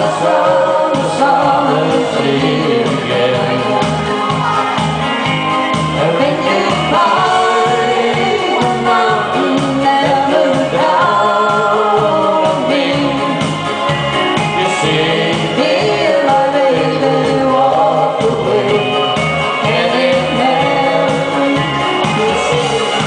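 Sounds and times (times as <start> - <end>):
woman and man singing duet: 0.0 - 4.3, 6.0 - 13.6, 14.6 - 23.0
amplified accompaniment with bass beat: 0.0 - 23.0.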